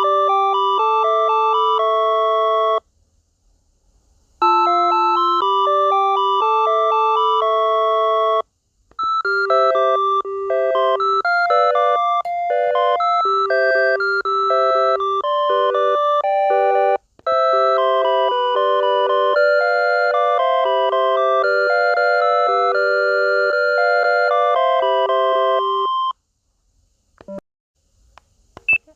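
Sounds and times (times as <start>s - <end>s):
electronic ringtone beeping melody: 0.0s - 2.8s, 4.4s - 8.4s, 9.0s - 26.1s.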